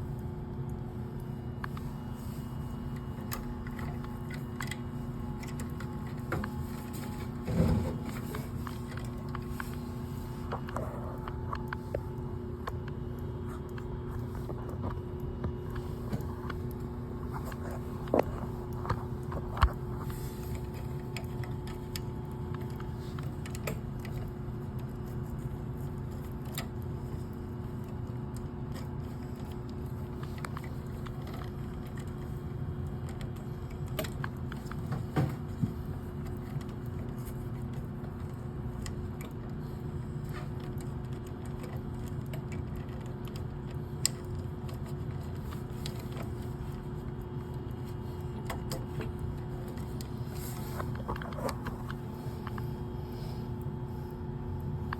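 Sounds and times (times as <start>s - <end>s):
steady mechanical hum: 0.0s - 54.9s.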